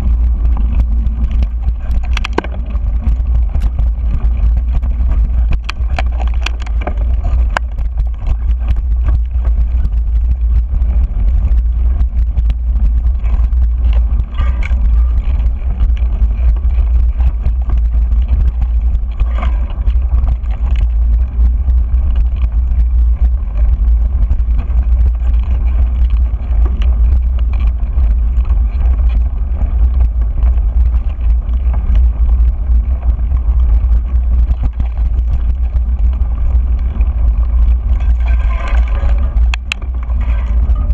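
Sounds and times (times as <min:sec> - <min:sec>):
bike clicks and rattles: 0:00.0 - 0:40.9
bike tyre noise on dirt: 0:00.0 - 0:40.9
wind rumble on microphone: 0:00.0 - 0:40.9.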